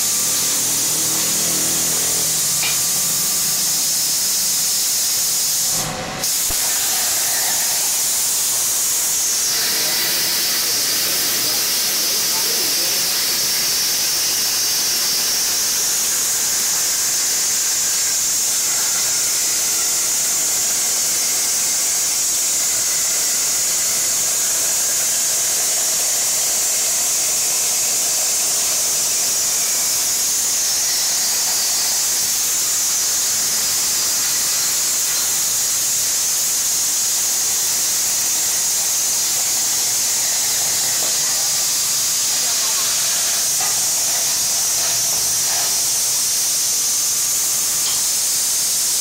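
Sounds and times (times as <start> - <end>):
plasma torch hissing: 0.0 - 49.0.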